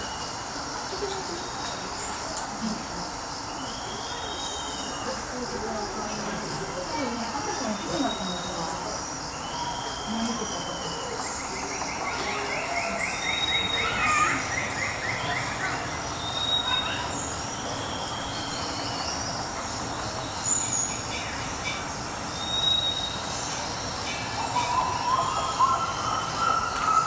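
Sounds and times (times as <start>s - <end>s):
birds calling: 0.0s - 27.0s
steady background hiss: 0.0s - 27.0s.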